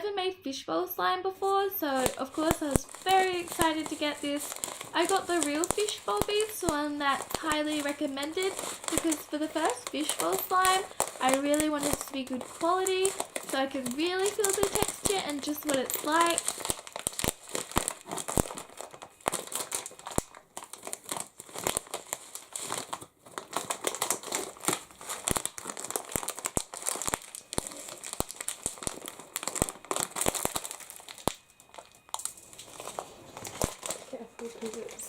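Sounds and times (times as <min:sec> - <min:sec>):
plastic bag crinkling: 0:01.4 - 0:35.0.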